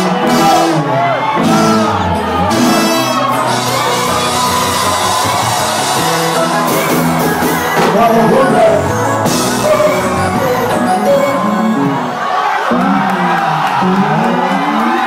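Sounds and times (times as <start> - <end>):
live band music: 0.0 - 15.0
voices singing and shouting: 0.0 - 15.0.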